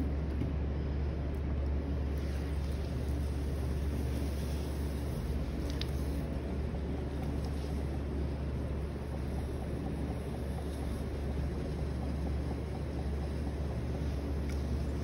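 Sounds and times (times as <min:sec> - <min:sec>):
potter's wheel motor humming: 0:00.0 - 0:15.0.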